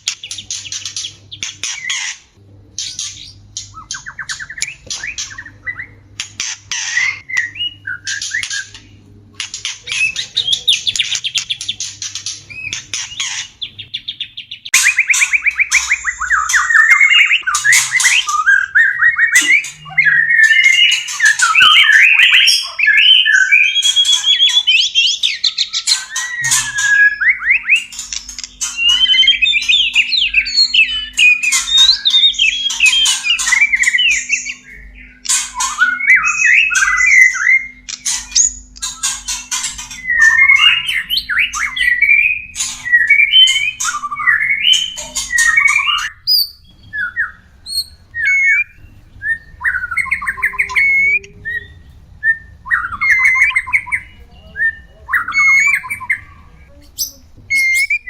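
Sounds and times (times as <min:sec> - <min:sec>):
bird chattering squawks: 0:00.0 - 0:58.0
bird song of whistles and trills: 0:02.8 - 0:58.0.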